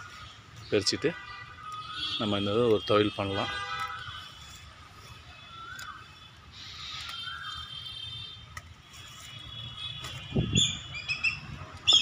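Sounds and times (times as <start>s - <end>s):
birds calling: 0.0s - 8.3s, 9.2s - 12.0s.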